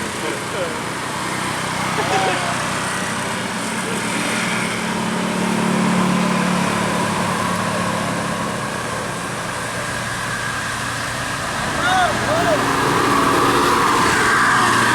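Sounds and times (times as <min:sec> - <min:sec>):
bus engine running: 0:00.0 - 0:14.9
road noise: 0:00.0 - 0:14.9.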